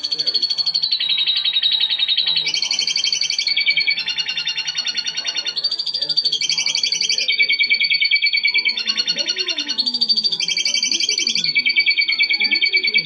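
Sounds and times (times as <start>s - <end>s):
canary singing trilled song: 0.0s - 13.0s.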